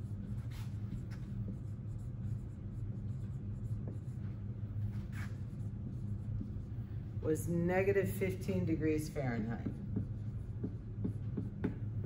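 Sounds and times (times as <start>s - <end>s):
marker writing on whiteboard: 0.0s - 6.9s, 7.8s - 12.0s
steady low hum: 0.0s - 12.0s.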